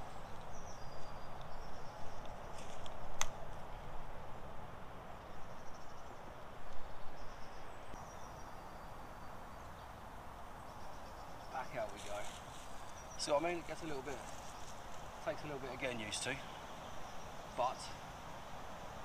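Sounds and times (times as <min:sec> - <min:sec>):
small birds chirping: 0:00.0 - 0:03.8, 0:05.1 - 0:19.0
steady background hiss: 0:00.0 - 0:19.0.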